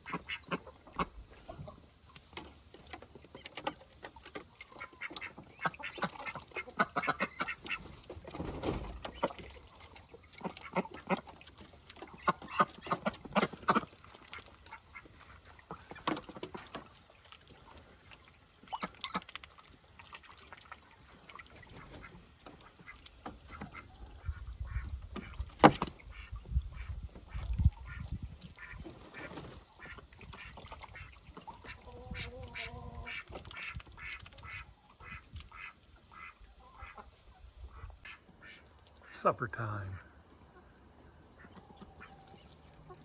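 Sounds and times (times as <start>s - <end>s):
chickens clucking and squawking: 0.0s - 17.0s, 20.8s - 38.8s, 40.4s - 43.0s.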